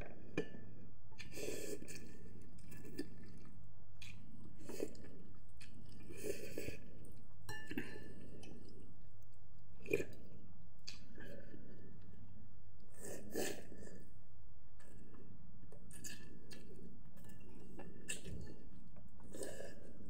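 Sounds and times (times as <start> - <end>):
faint low hum: 0.0 - 20.0
person chewing noodles: 1.2 - 12.2, 14.8 - 20.0.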